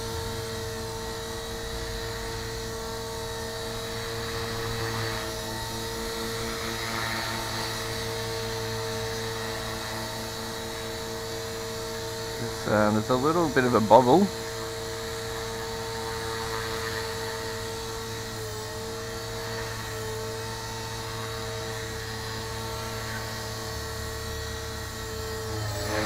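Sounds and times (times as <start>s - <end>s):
rc helicopter motor whine: 0.0s - 26.0s.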